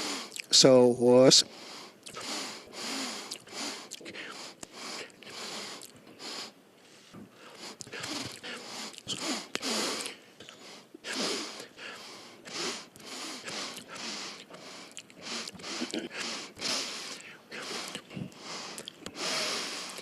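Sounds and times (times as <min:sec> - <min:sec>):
man sniffing: 0:00.0 - 0:00.4, 0:01.6 - 0:20.0.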